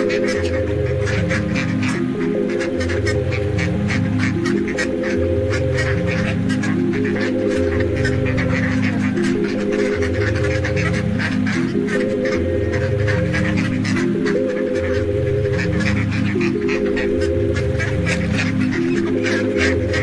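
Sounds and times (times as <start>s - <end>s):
background music with held chords: 0.0s - 20.0s
waterfowl honking and calling: 0.0s - 20.0s.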